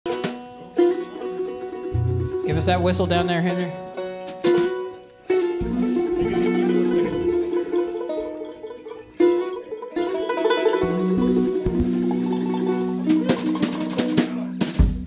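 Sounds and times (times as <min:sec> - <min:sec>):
banjo: 0:00.0 - 0:15.0
guitar: 0:00.1 - 0:15.0
mandolin playing chords: 0:00.1 - 0:15.0.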